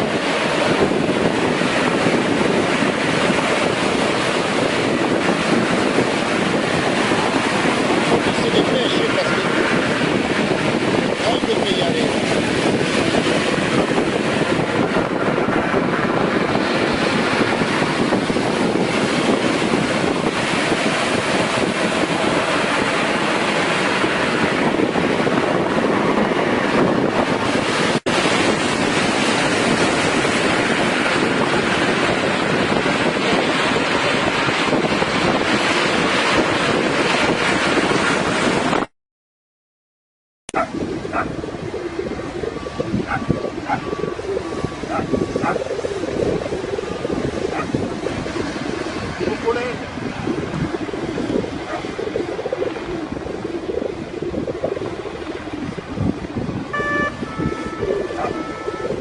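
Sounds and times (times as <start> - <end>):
heavy surf: 0.0 - 38.9, 40.5 - 59.0
wind buffeting microphone: 0.0 - 38.9, 40.5 - 59.0.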